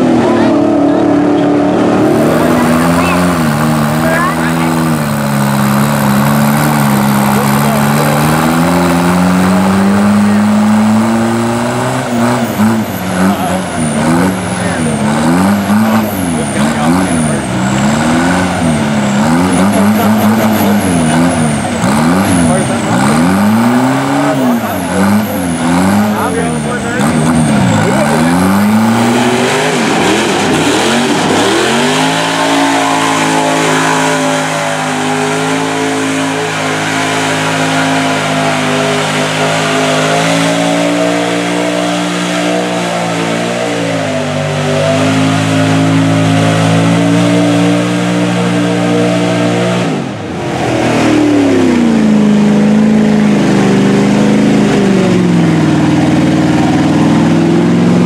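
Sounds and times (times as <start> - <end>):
truck engines revving: 0.0 - 58.0.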